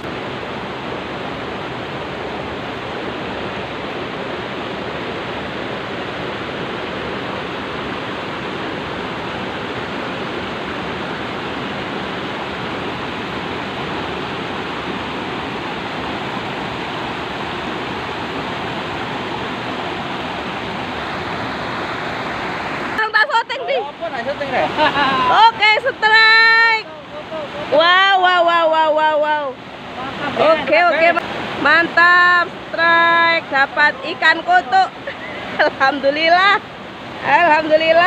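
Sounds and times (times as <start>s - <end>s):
river rushing over boulders: 0.0s - 38.0s.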